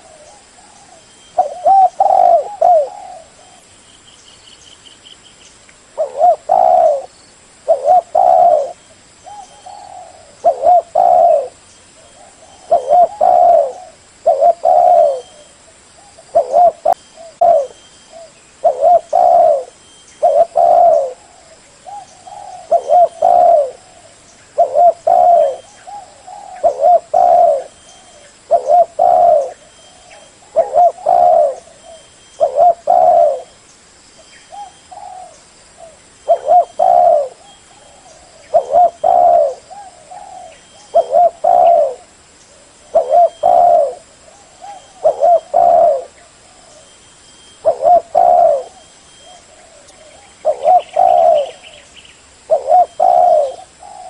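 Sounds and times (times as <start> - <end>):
dove cooing: 0.0 - 3.7, 5.9 - 33.6, 34.4 - 47.0, 47.6 - 54.0.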